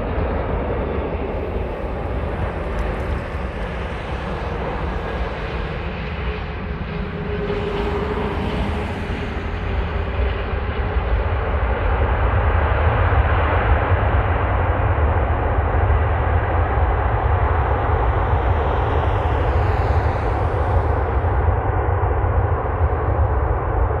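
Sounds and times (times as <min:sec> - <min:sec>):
jet airliner roar: 0:00.0 - 0:24.0.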